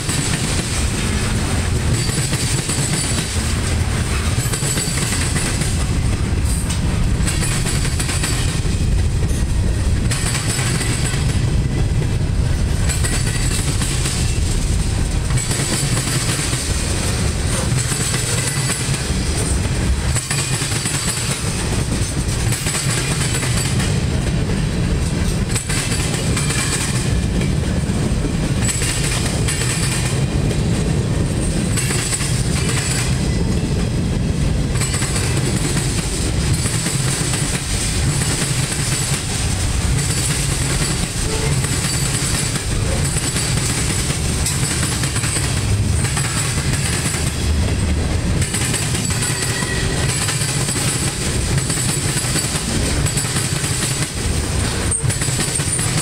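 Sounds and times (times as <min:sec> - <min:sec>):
steel wheels clattering over rails: 0:00.0 - 0:56.0.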